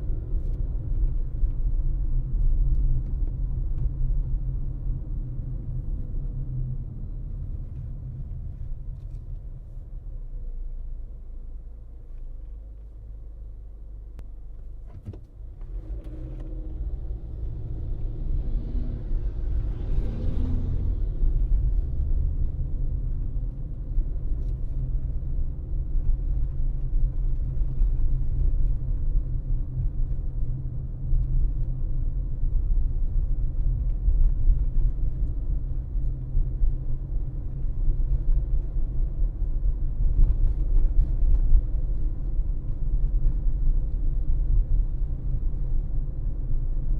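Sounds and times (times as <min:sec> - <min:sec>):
car driving on road rumble: 0:00.0 - 0:46.9.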